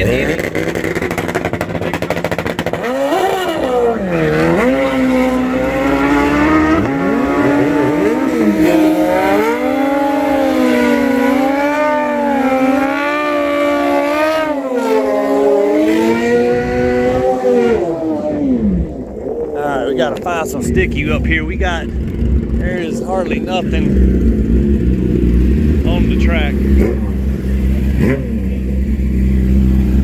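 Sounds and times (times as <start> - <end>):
sport bike engines revving: 0.0 - 30.0.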